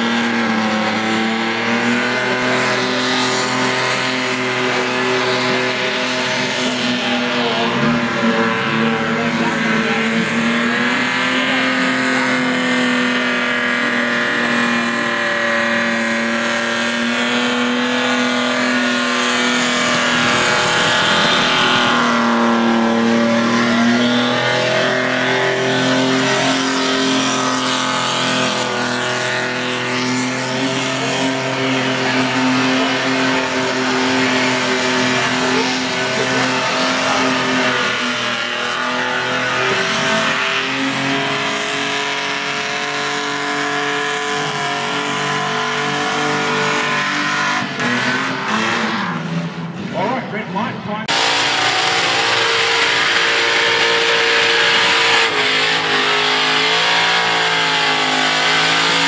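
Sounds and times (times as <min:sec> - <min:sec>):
spinning tyres squealing: 0:00.0 - 0:50.4, 0:51.1 - 0:59.0
car engine at high revs: 0:00.0 - 0:59.0.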